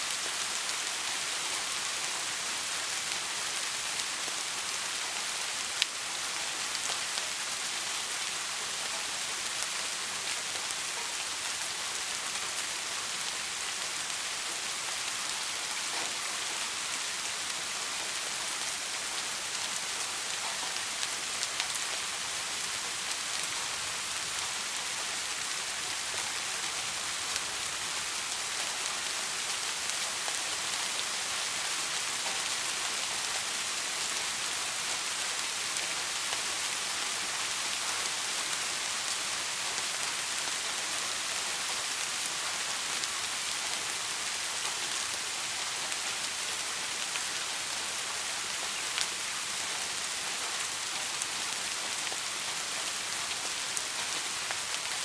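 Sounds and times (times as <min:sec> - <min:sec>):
soft rain hiss: 0:00.0 - 0:55.0.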